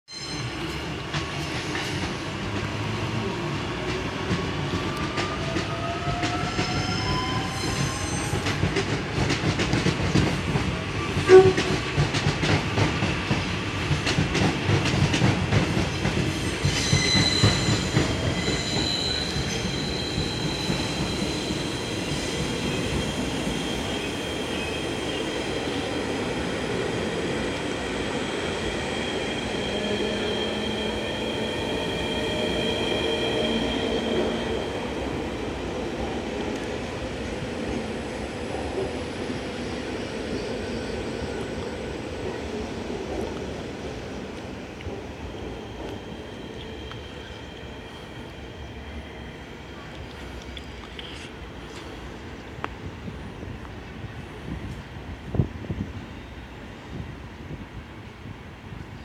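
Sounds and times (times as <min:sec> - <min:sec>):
train rolling rumble: 0:00.4 - 0:59.0.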